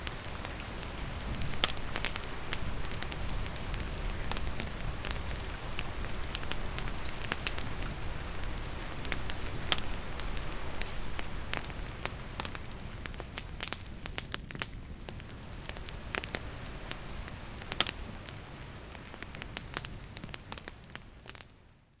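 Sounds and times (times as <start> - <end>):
campfire crackling and popping: 0.0 - 21.5.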